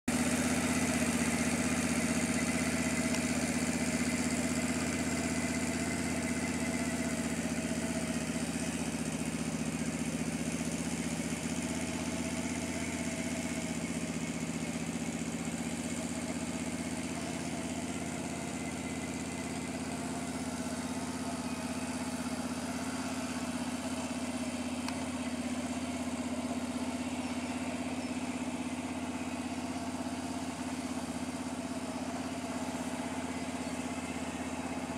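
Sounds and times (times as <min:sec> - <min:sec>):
atv engine running steadily: 0:00.0 - 0:34.9.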